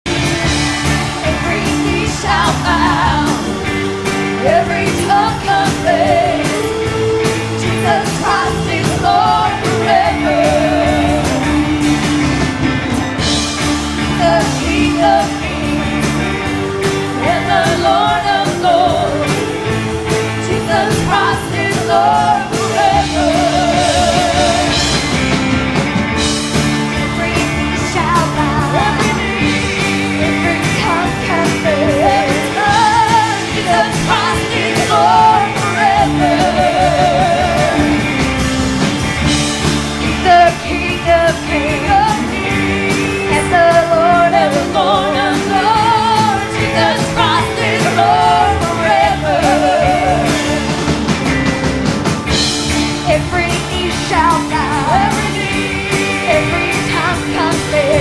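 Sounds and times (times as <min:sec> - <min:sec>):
band playing held chords: 0:00.0 - 0:58.0
steady drum beat: 0:00.1 - 0:58.0
person singing with vibrato: 0:00.3 - 0:38.9, 0:40.0 - 0:51.6, 0:52.2 - 0:58.0.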